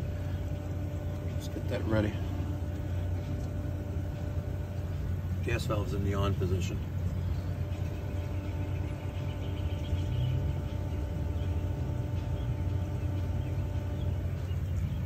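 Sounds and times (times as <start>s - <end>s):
pool heater machine hum: 0.0s - 15.0s.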